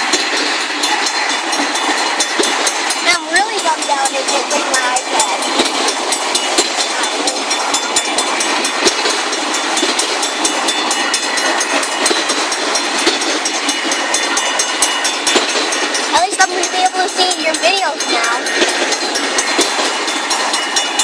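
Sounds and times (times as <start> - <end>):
rail joint clicks and knocks: 0.0 - 21.0
train wheels rumbling on rail: 0.0 - 21.0.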